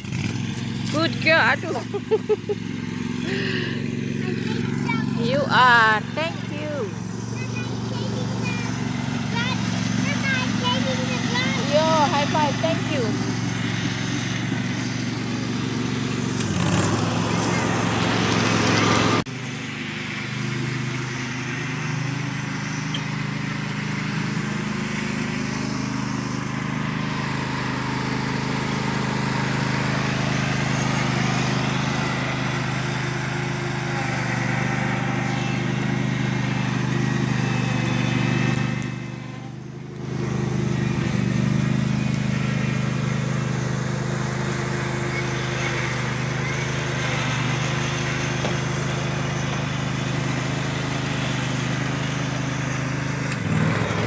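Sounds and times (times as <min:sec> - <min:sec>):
ride-on lawn mower engine: 0:00.0 - 0:54.0.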